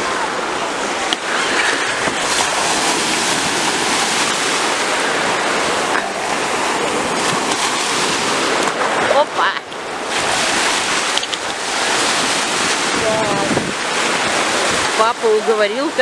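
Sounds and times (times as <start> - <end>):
waves breaking in shallows: 0.0 - 16.0.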